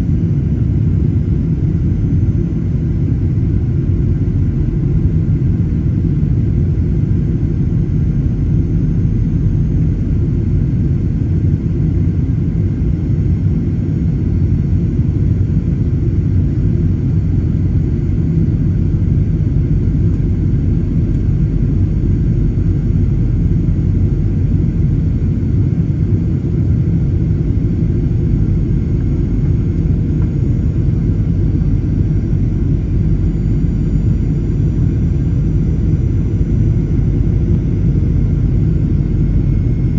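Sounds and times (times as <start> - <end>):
aircraft cabin rumble: 0.0 - 39.9
faint steady hums: 0.0 - 39.9.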